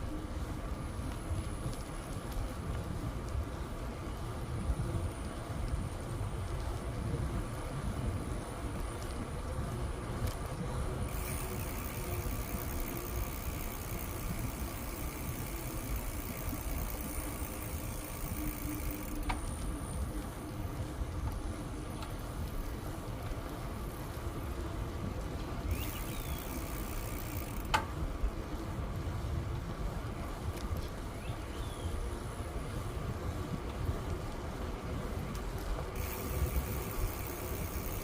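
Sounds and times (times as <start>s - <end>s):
bicycle tyres rolling: 0.0s - 38.0s.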